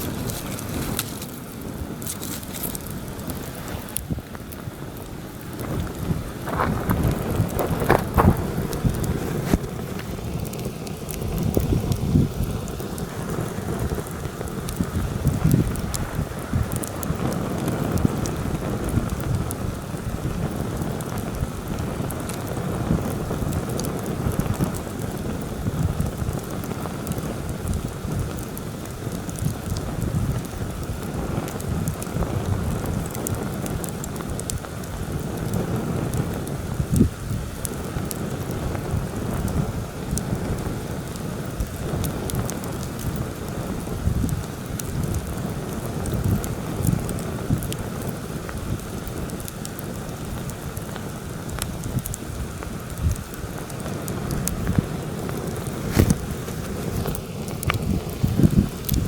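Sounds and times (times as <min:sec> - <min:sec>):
campfire crackling: 0:00.0 - 0:59.0
wind gusting over microphone: 0:00.0 - 0:59.0.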